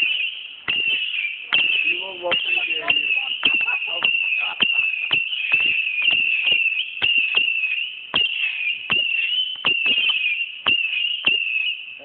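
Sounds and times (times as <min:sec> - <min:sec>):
firework cracks: 0:00.0 - 0:11.8
whistling fireworks shriek: 0:00.0 - 0:12.0.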